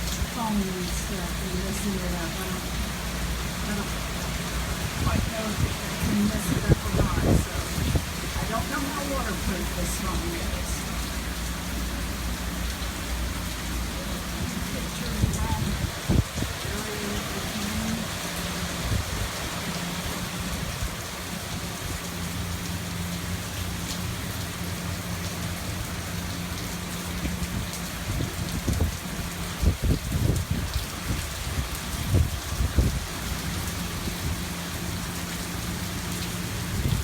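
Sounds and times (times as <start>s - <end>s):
wind gusts on microphone: 0.0s - 22.2s, 27.1s - 35.2s, 36.4s - 37.0s
heavy rain falling: 0.0s - 37.0s
water dripping off house: 0.0s - 37.0s.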